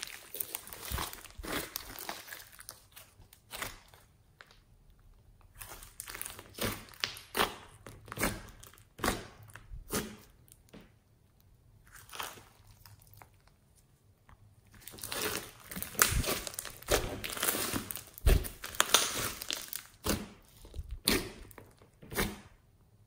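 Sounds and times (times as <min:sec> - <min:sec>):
slime squishing and crackling: 0:00.0 - 0:22.6.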